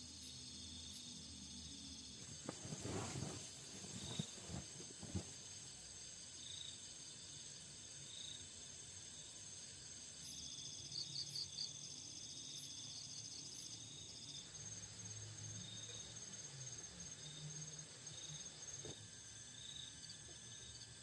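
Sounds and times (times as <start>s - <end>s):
faster pulsing insect trill: 0.0s - 20.9s
crickets trilling: 0.0s - 21.0s.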